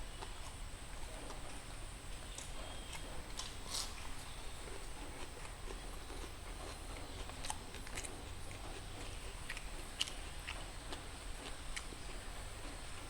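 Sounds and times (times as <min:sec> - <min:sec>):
steady low hum: 0:00.0 - 0:13.0
chewing and mouth noises: 0:00.1 - 0:13.0.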